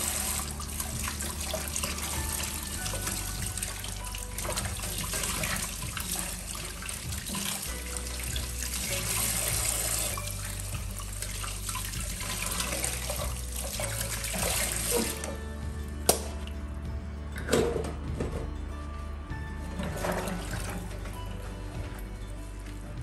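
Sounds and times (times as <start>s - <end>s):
utensils being rinsed: 0.0s - 16.5s, 19.7s - 22.9s.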